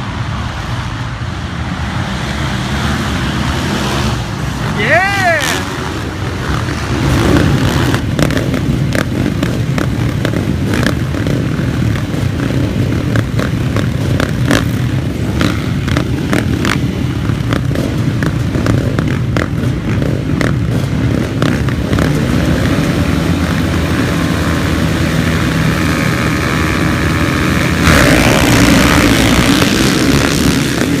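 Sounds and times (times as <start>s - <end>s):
motocross engines running: 0.0s - 31.0s.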